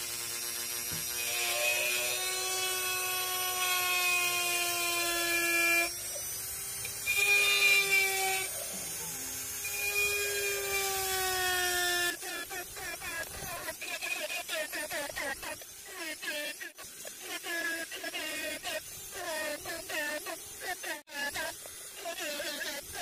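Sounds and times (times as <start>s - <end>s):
rotary tool whining into shell: 0.0s - 21.0s.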